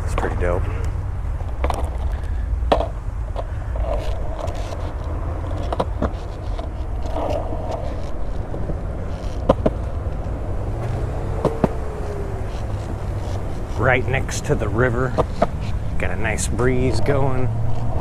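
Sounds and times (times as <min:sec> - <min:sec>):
skateboards clacking on concrete: 0:00.0 - 0:18.0
wind rumbling on microphone: 0:00.0 - 0:18.0.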